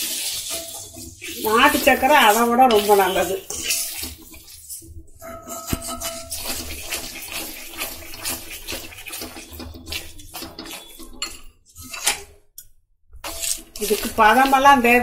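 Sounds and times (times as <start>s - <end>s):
sizzling: 0.0s - 12.3s, 13.2s - 15.0s
ladle scraping iron pan: 0.0s - 12.4s, 13.2s - 15.0s.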